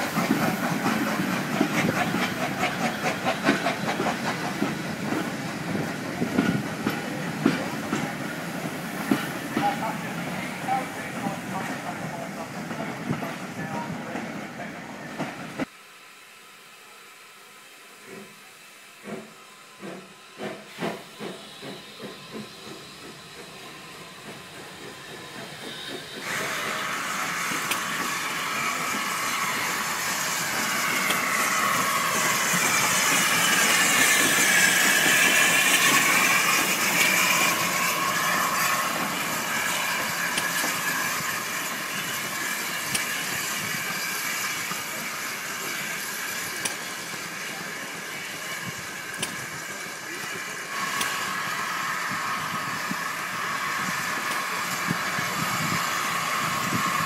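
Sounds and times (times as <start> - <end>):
steam locomotive chuffing: 0.0 - 15.7, 16.8 - 57.0
loud steam hiss: 0.0 - 57.0.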